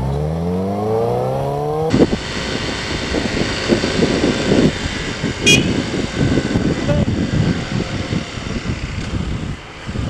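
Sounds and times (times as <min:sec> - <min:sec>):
gusty wind and road noise: 0:00.0 - 0:10.0
vehicle engine accelerating: 0:00.0 - 0:10.0.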